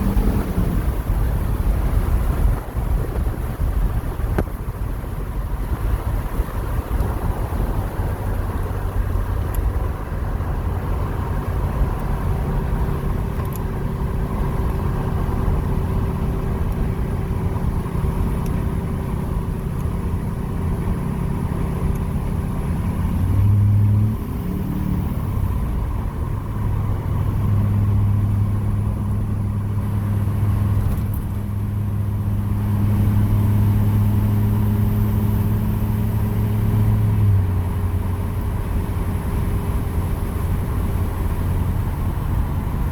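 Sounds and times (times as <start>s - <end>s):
diesel exhaust drone: 0.0s - 42.9s.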